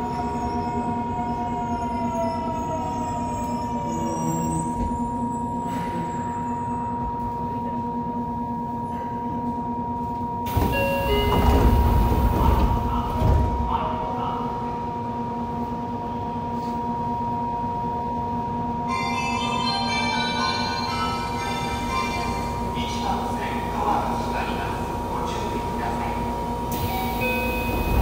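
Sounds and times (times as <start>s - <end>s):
train electrical hum: 0.0s - 28.0s.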